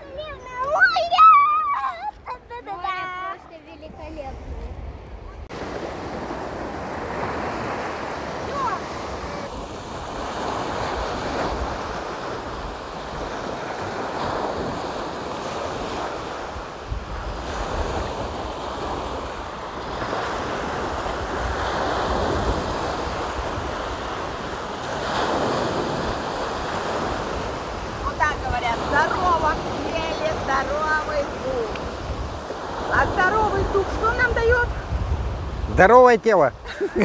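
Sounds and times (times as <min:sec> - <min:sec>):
waves breaking on shore: 0:00.0 - 0:37.0
wind buffeting microphone: 0:00.0 - 0:37.0.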